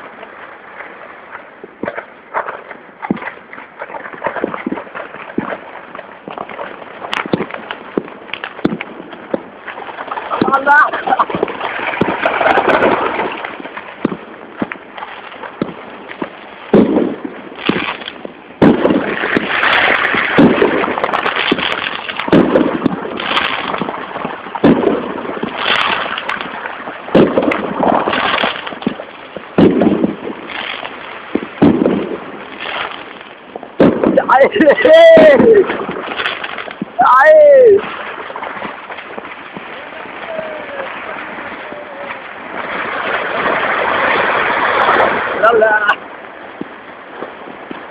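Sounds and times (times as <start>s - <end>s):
firecrackers crackling: 0.0s - 47.9s
fireworks bangs: 0.0s - 47.9s.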